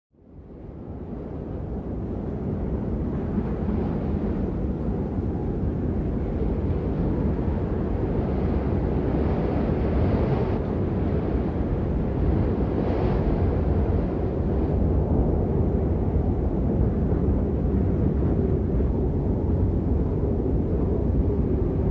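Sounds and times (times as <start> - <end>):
blizzard wind rushing: 0.3 - 21.9.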